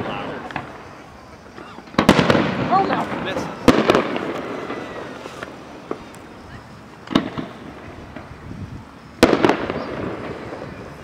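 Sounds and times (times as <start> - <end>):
fireworks bangs with rumbling echo: 0.0 - 11.0.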